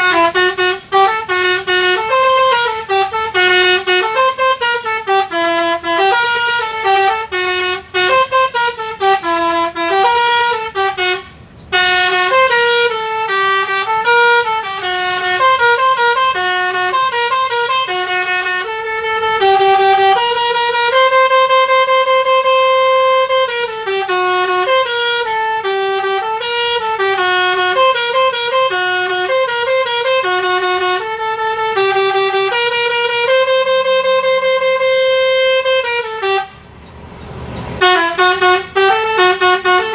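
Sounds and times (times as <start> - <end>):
multi-tone vehicle horn tune: 0.0 - 39.9.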